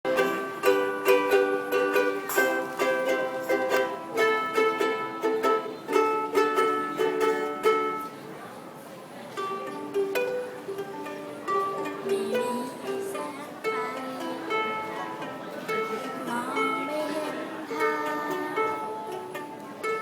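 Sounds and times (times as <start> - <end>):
ukulele strumming chords: 0.1 - 8.3, 9.3 - 20.0.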